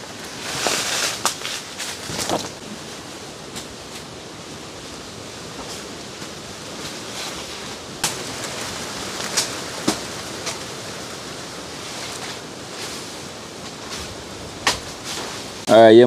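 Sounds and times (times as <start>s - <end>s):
rushing outdoor noise: 0.0s - 16.0s.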